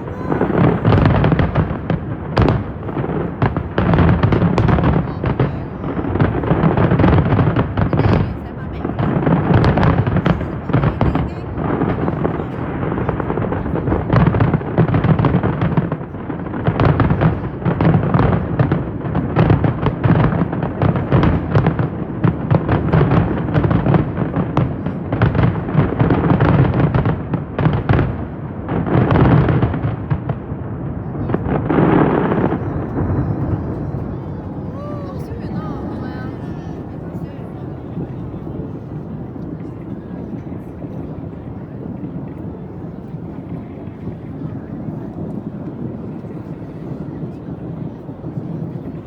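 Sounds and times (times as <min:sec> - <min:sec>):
fireworks booming and crackling: 0:00.0 - 0:49.0.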